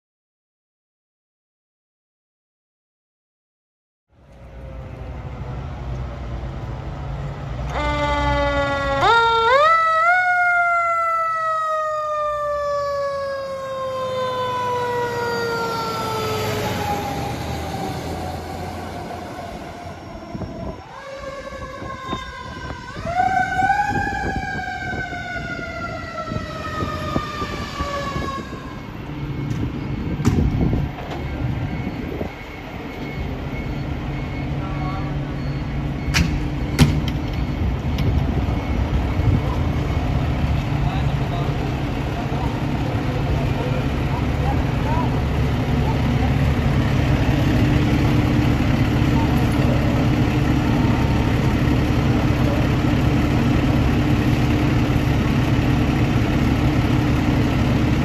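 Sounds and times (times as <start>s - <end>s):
fire truck engines rumbling: 4.1s - 58.0s
fire truck mechanical siren: 7.5s - 58.0s.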